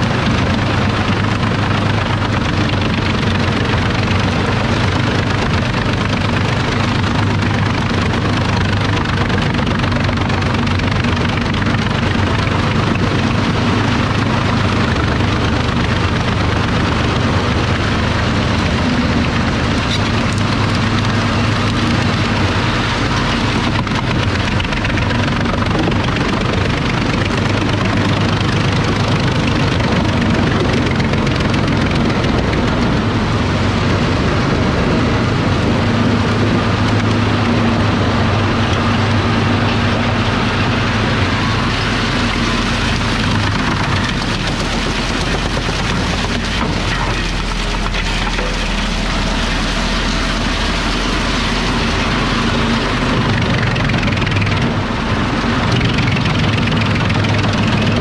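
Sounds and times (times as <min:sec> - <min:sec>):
tractor engine drone: 0:00.0 - 0:58.0
wood chipper chipping: 0:00.0 - 0:58.0.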